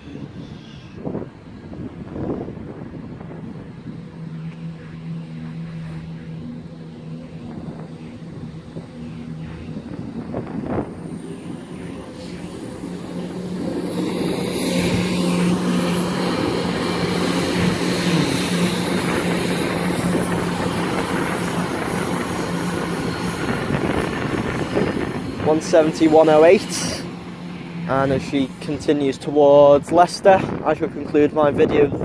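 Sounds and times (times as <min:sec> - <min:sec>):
diesel train engines: 0:00.0 - 0:32.0.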